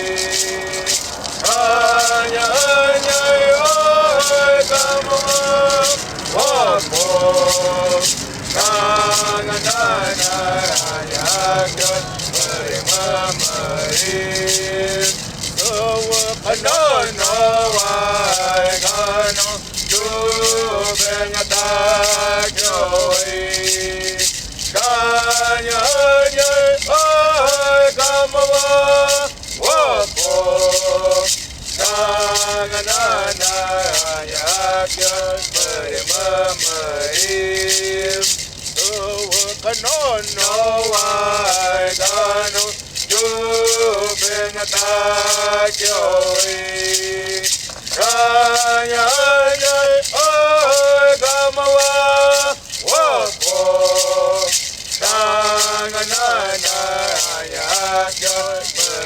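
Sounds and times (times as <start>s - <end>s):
hand rattle shaken: 0.0s - 59.0s
person singing: 0.0s - 59.0s.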